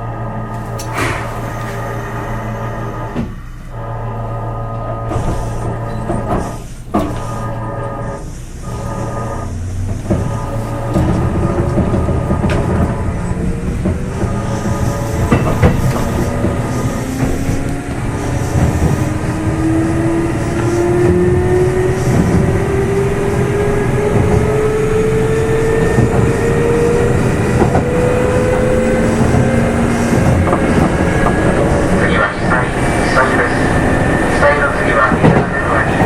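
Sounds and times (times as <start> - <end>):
rail joint clicks: 0.0 - 36.0
train motor whine rising: 0.0 - 36.0.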